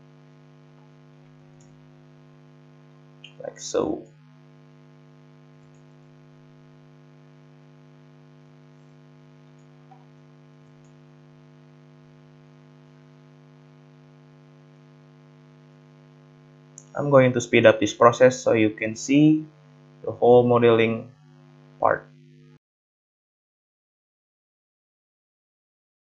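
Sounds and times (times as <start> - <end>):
faint electrical hum: 0.0 - 22.4.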